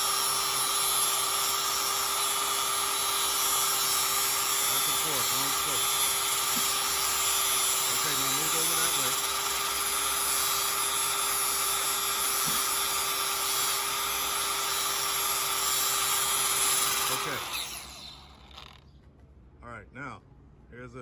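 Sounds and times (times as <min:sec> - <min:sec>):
angle grinder grinding steel: 0:00.0 - 0:18.8
grinder disc spinning down: 0:00.2 - 0:18.8.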